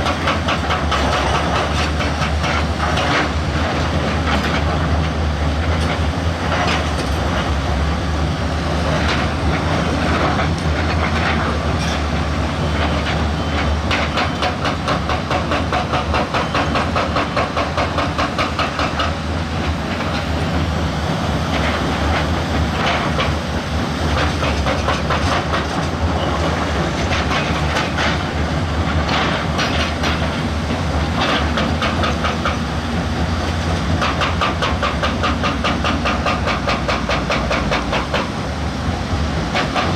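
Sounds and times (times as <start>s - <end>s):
diesel machine engine: 0.0s - 39.9s.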